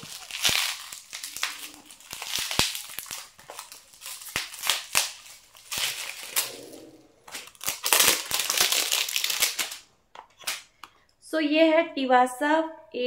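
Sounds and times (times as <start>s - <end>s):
plastic wrapping crinkling: 0.0s - 10.8s.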